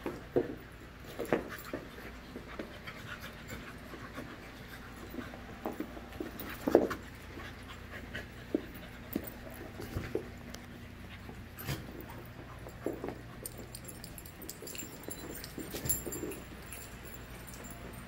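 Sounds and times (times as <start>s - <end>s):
puppies scuffling and mouthing: 0.0s - 18.0s
puppies panting: 1.2s - 18.0s.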